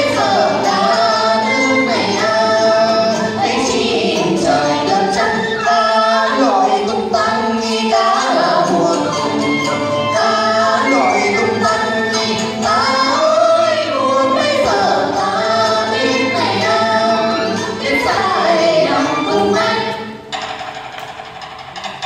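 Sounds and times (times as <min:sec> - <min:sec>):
traditional instrumental music: 0:00.0 - 0:22.0.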